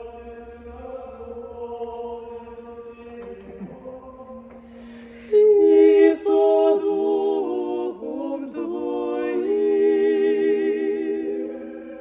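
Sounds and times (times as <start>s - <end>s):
women singing a hymn in harmony: 0.0s - 12.0s.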